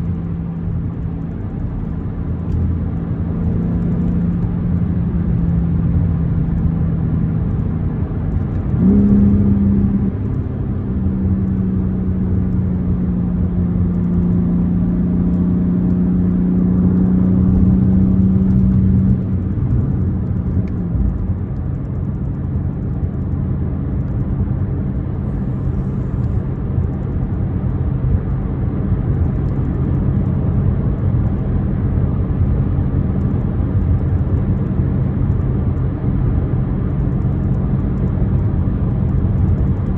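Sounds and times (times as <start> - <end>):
car engine running: 0.0 - 39.9
tyre and road rumble: 0.0 - 39.9.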